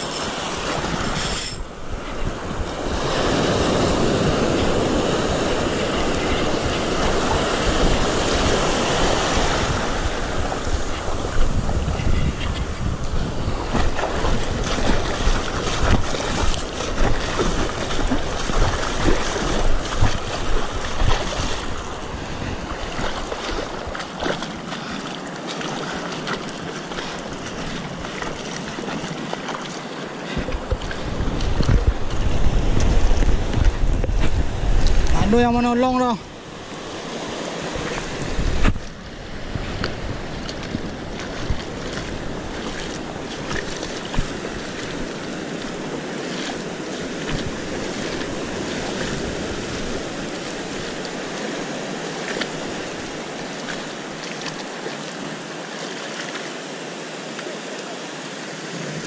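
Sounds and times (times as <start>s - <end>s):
wind buffeting microphone: 0.0s - 25.0s, 30.2s - 54.3s
sea surf washing on shore: 0.0s - 59.0s.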